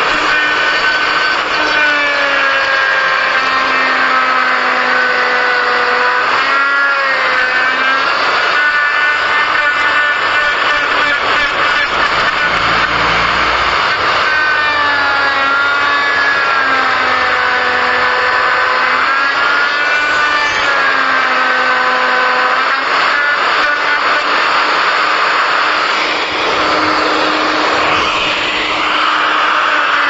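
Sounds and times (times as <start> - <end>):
power tool cutting wood: 0.0 - 30.0.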